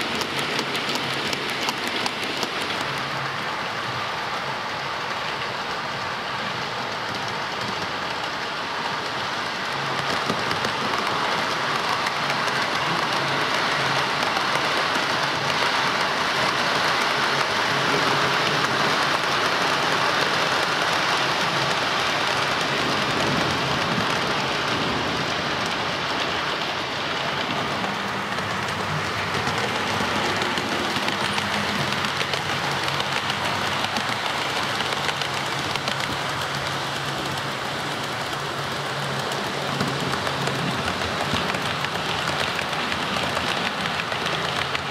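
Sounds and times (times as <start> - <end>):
model trains running on track: 0.0 - 44.9.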